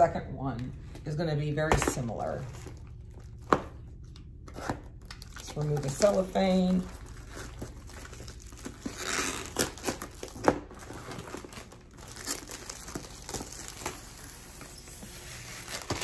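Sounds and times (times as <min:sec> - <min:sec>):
shrink-wrap crinkling and tearing: 0:02.2 - 0:16.0.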